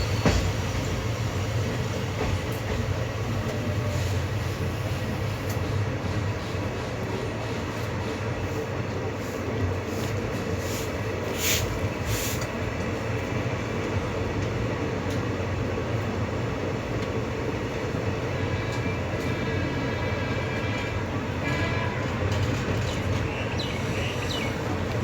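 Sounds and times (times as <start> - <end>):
train coach rumbling on track: 0.0 - 25.0.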